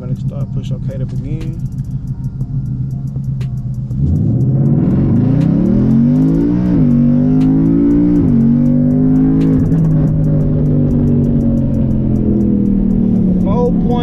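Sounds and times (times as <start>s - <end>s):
car engine idling: 0.0s - 14.0s
car engine revving while accelerating: 0.0s - 14.0s.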